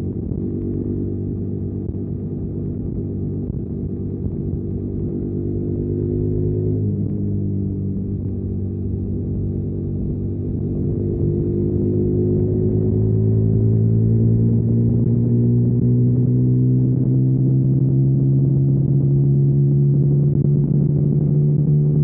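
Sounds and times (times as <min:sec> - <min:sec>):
motorcycle engine while riding: 0:00.0 - 0:22.0.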